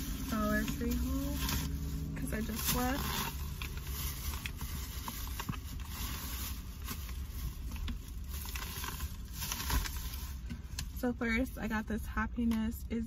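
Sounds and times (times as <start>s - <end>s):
plastic bag rustling: 0.0s - 10.5s
low steady rumble: 0.0s - 13.0s.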